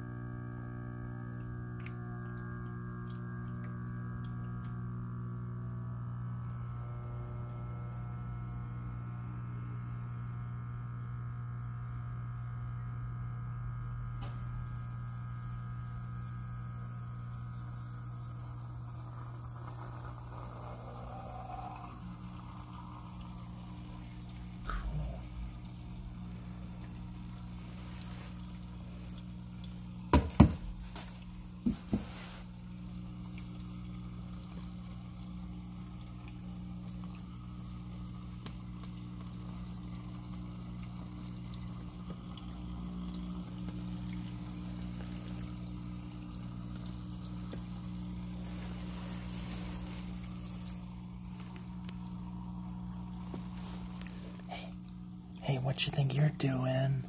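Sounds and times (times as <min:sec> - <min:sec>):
water pouring into a bowl: 0:00.0 - 0:10.0, 0:14.2 - 0:57.0
electric pump humming: 0:00.0 - 0:57.0.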